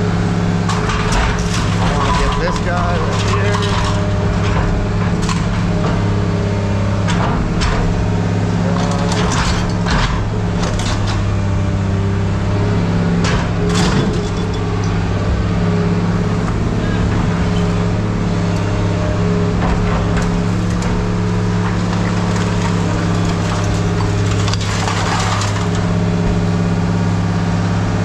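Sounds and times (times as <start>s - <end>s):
heavy machine engine humming: 0.0s - 28.0s
scrap metal clanking: 0.5s - 26.6s.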